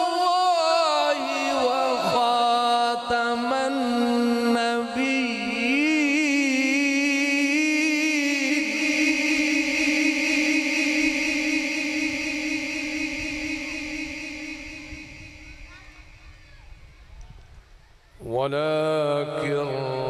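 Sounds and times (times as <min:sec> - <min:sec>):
man chanting: 0:00.0 - 0:16.2, 0:18.2 - 0:20.0.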